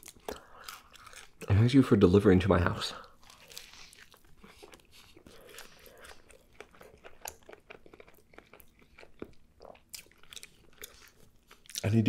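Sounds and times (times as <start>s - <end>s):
person chewing: 0.0s - 1.6s, 2.9s - 12.0s.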